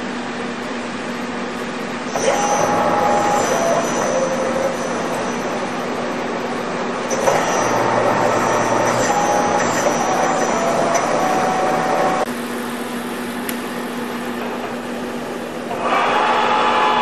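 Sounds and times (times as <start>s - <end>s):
milling machine running: 1.0s - 12.4s, 13.7s - 17.0s.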